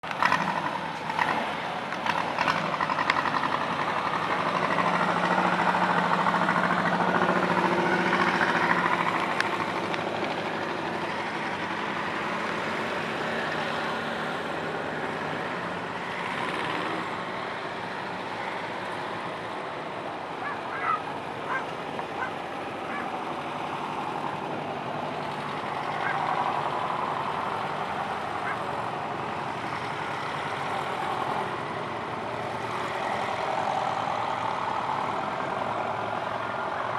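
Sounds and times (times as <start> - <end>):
motor trike engines running: 0.0 - 36.9.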